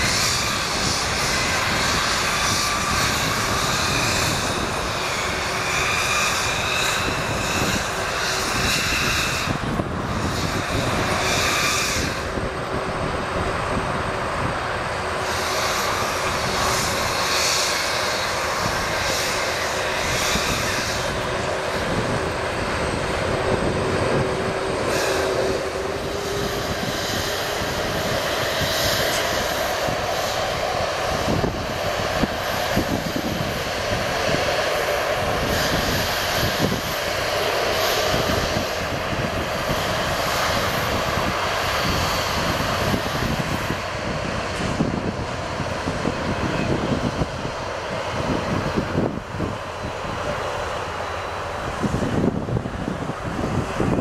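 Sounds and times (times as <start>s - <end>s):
jet engines whining at taxi power: 0.0s - 54.0s.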